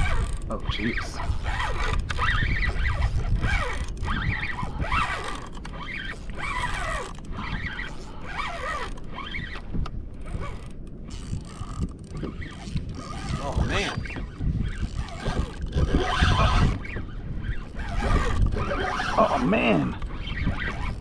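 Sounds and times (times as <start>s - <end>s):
fishing reel gear whine: 0.0s - 21.0s.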